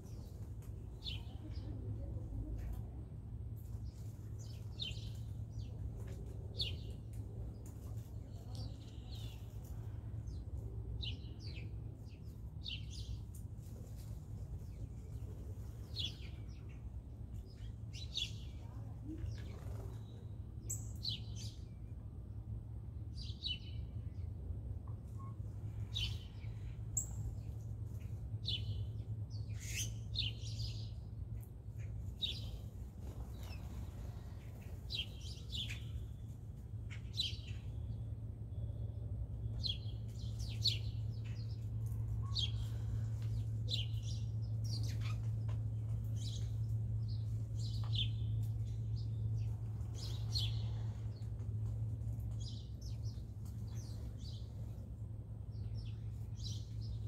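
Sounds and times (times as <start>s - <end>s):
small birds chirping: 0.0s - 22.1s, 25.1s - 57.0s
steady low hum: 0.0s - 57.0s.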